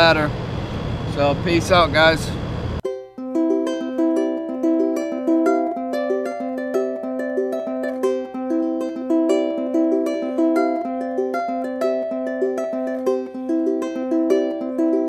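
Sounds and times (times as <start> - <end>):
plucked-string tune: 2.8 - 15.0.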